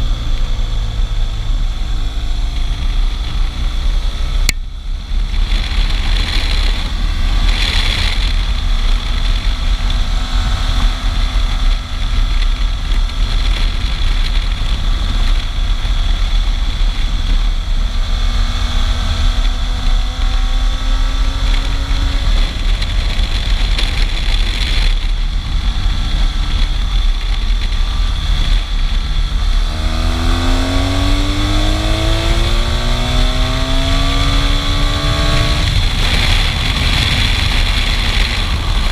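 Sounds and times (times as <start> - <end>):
motorcycle engine: 0.0 - 38.9
wind rumble on microphone: 0.0 - 38.9.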